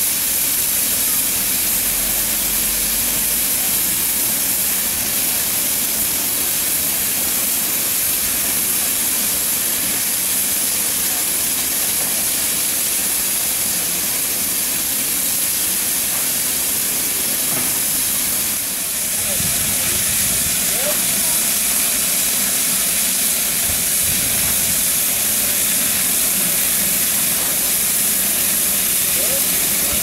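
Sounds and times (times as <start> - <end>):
steam hissing: 0.0 - 30.0.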